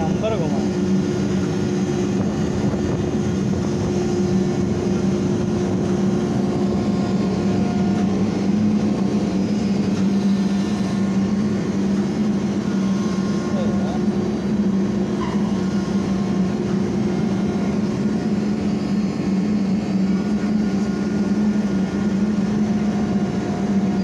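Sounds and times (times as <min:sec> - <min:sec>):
hydraulic crane humming: 0:00.0 - 0:24.0.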